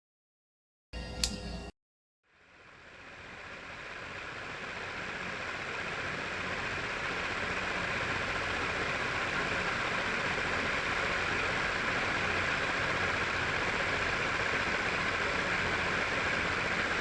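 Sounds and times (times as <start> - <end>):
small motor fan whirring: 2.3 - 17.0.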